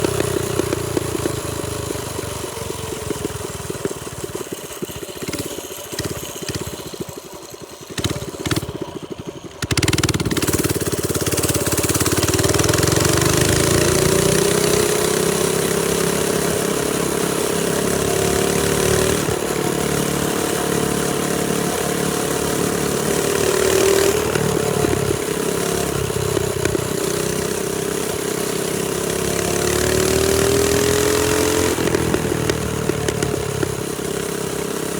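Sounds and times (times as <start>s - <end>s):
minibike engine revving: 0.0s - 34.9s.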